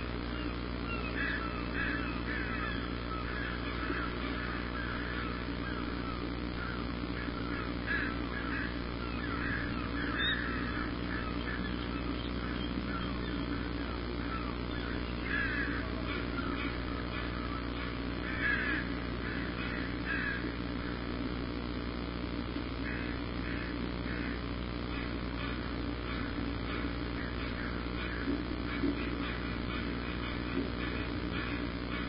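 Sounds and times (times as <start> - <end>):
many birds calling: 0.0 - 21.7, 22.6 - 32.0
steady low hum: 0.0 - 32.0.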